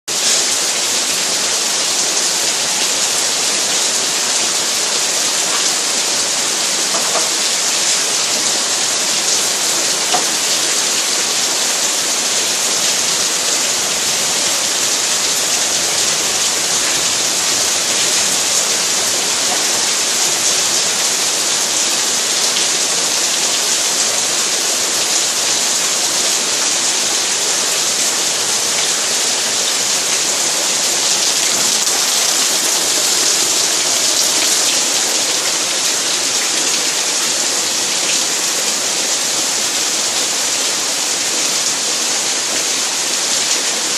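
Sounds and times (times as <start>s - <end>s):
steady rain falling: 0.1s - 43.9s.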